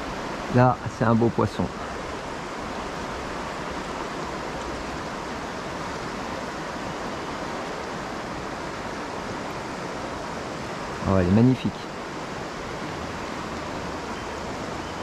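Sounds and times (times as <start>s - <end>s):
river water rushing over stones: 0.0s - 15.0s.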